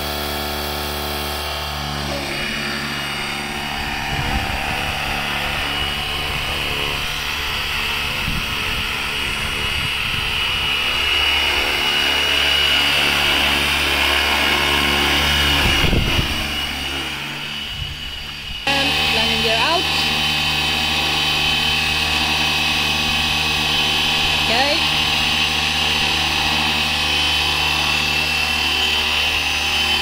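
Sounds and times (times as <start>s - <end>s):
rc helicopter motor whine: 0.0s - 30.0s
rotor chop: 0.0s - 30.0s.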